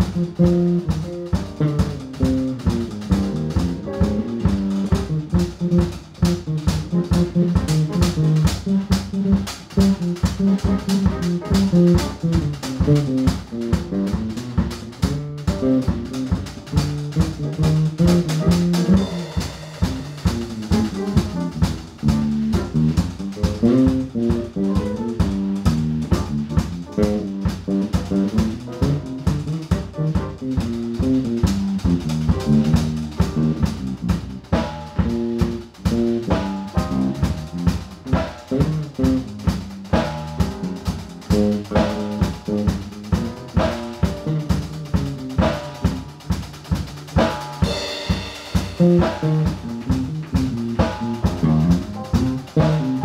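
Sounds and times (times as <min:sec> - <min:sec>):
jazz combo playing: 0:00.0 - 0:53.0
snare and bass drum hits: 0:00.0 - 0:53.0.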